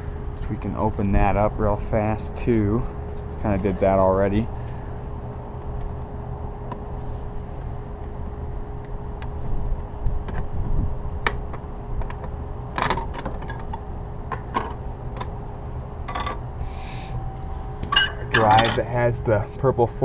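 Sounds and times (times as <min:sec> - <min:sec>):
faint steady hum: 0:00.0 - 0:20.0
low background rumble: 0:00.0 - 0:20.0.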